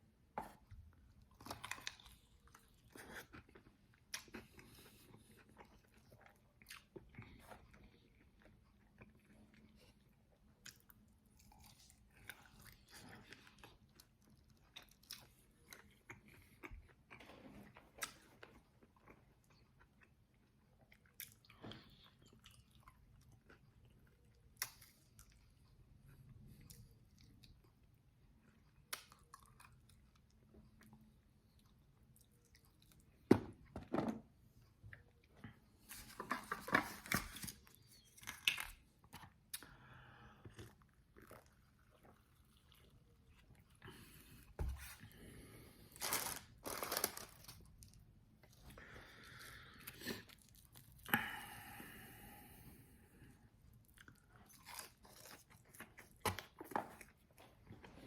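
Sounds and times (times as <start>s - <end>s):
chewing and crunching food: 0.1s - 51.7s, 52.7s - 58.0s.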